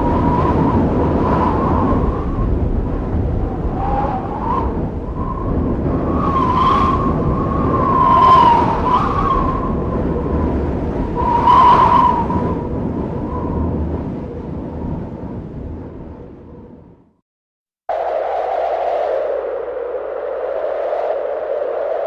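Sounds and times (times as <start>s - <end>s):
blizzard wind howling: 0.0s - 17.2s, 17.9s - 22.0s.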